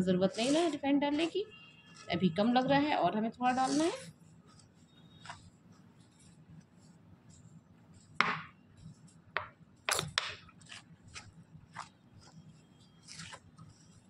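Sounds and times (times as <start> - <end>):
hand rubbing flour: 0.0 - 9.8, 10.4 - 14.0.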